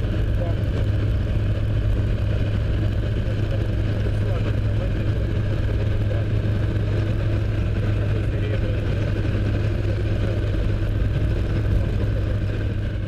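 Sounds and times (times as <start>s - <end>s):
car engine hum: 0.0s - 13.0s
road and tyre noise: 0.0s - 13.0s.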